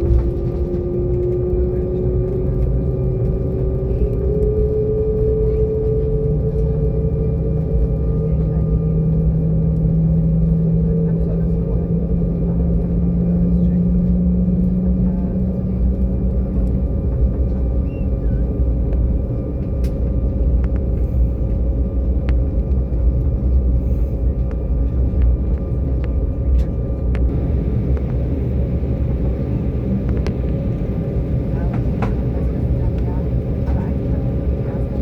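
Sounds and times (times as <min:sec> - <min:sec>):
airliner cabin engine rumble: 0:00.0 - 0:35.0
low hum: 0:00.0 - 0:35.0.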